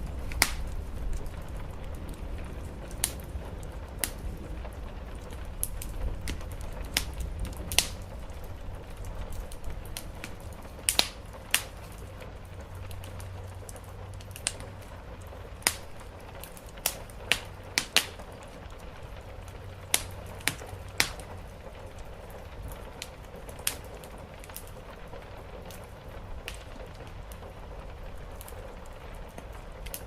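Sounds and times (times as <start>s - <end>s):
low rumbling background: 0.0s - 29.9s
wood fire crackling and popping: 0.0s - 30.0s.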